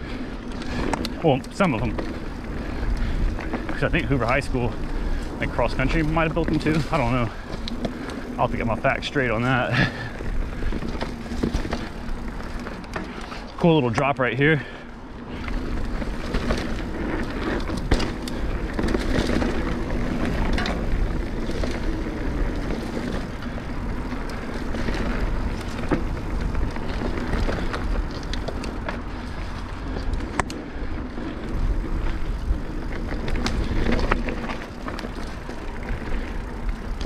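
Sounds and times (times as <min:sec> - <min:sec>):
bike rattling over bumps: 0:00.0 - 0:37.0
tyre and wind noise: 0:00.0 - 0:37.0.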